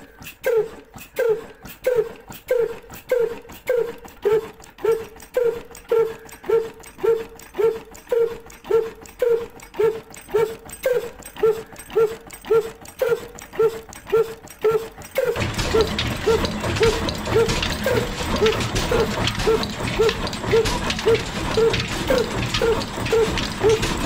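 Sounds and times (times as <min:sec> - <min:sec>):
model engine pulsing rhythmically: 0:00.0 - 0:24.0.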